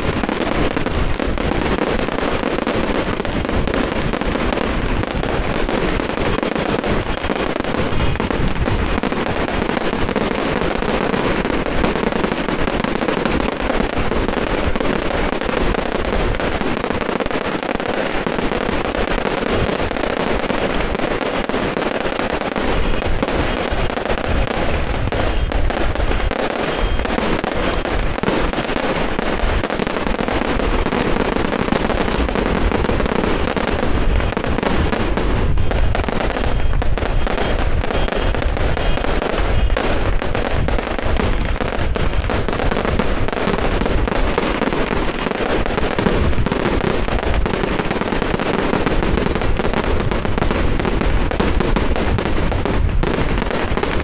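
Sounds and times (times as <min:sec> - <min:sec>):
firecrackers crackling bangs: 0:00.0 - 0:54.0.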